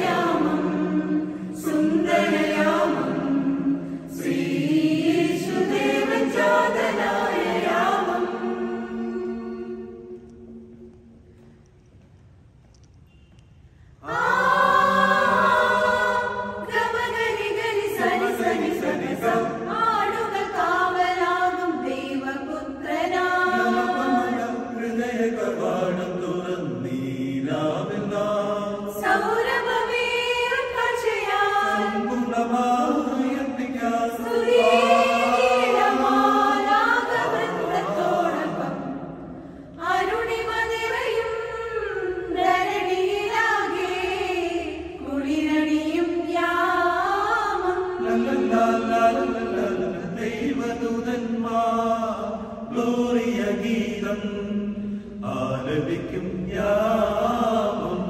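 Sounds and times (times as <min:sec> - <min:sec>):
church choir singing a carol: 0:00.0 - 0:11.0, 0:14.0 - 0:58.0.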